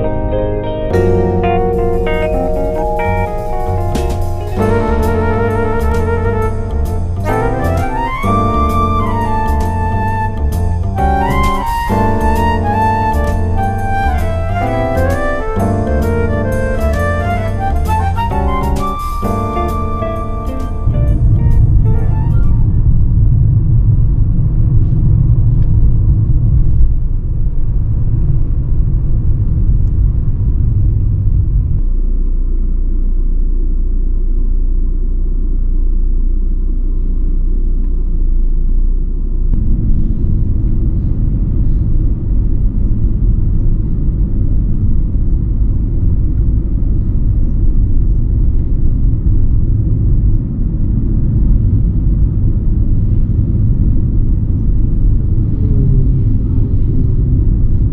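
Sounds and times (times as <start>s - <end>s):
car cabin road rumble: 1.0s - 57.9s.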